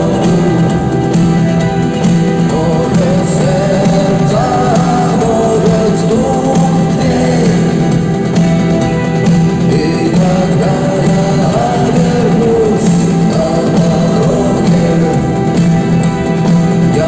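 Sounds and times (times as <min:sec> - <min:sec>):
live rock band with singing: 0:00.0 - 0:17.0.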